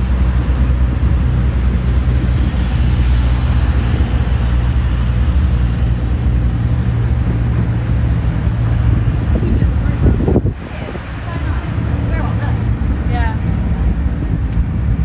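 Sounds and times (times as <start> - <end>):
road rumble: 0.0 - 15.0
vehicle engine running: 0.0 - 15.0
wind noise: 0.0 - 15.0.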